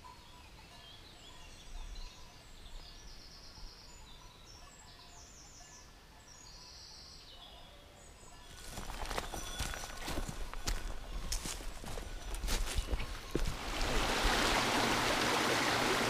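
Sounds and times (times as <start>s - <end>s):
songbirds trilling: 0.0s - 13.5s.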